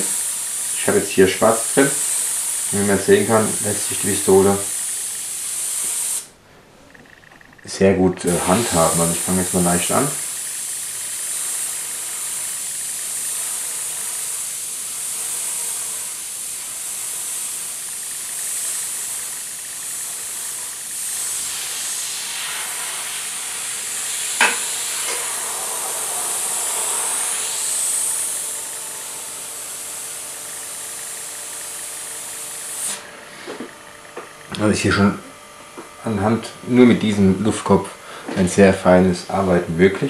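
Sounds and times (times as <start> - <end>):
airbrush hissing: 0.0 - 6.4, 8.2 - 35.2.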